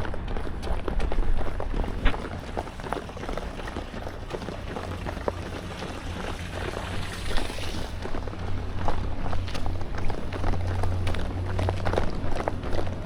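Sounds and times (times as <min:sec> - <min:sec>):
running footsteps: 0:00.0 - 0:13.0.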